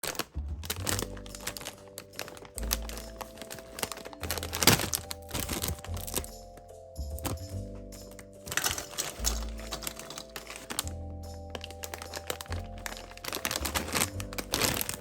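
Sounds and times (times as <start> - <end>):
chips crunching: 0.0 - 15.0
light background music: 0.0 - 15.0
plastic bag crinkling: 0.0 - 15.0.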